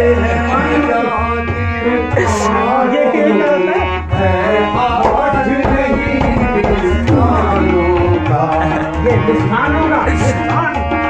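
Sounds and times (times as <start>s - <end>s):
harmonium: 0.0s - 11.0s
person singing: 0.0s - 11.0s
tabla drumming: 0.0s - 11.0s.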